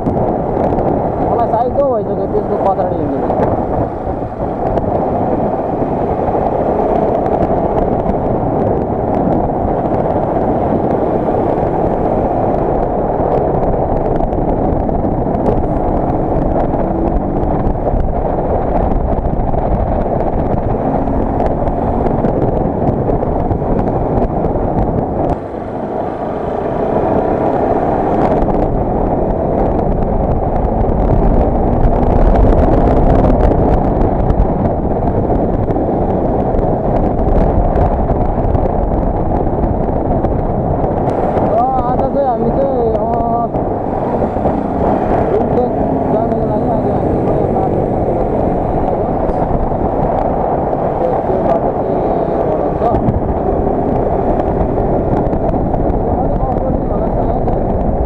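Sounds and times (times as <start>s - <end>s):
wind noise on microphone: 0.0s - 58.0s
motorcycle engine running: 2.3s - 58.0s.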